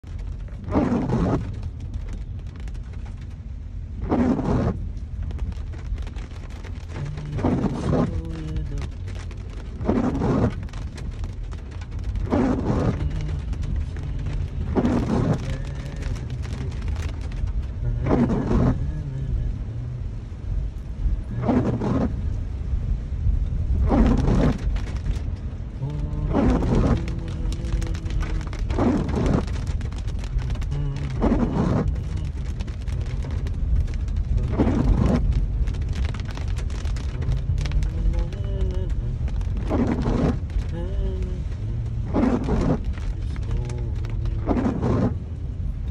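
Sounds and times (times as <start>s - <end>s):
low car rumble: 0.0s - 45.9s
rain ticking on glass: 0.0s - 45.9s
windshield wipers sweeping: 0.0s - 45.9s.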